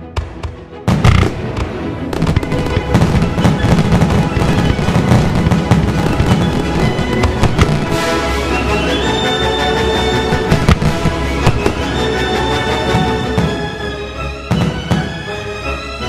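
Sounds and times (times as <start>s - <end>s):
music playing: 0.0s - 16.0s
fireworks bursting and crackling: 0.1s - 15.4s.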